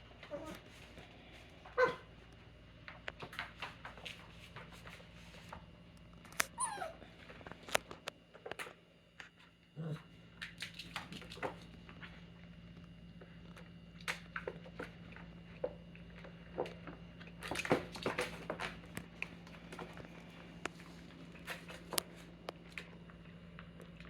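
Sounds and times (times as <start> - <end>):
puppies chewing and scuffling: 0.0 - 24.0.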